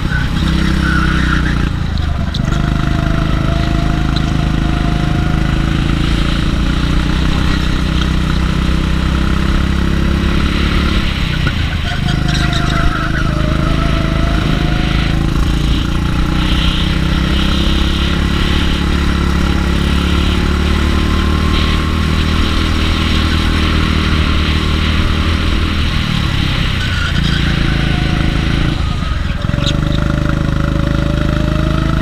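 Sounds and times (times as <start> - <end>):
go-kart engine running: 0.0 - 32.0.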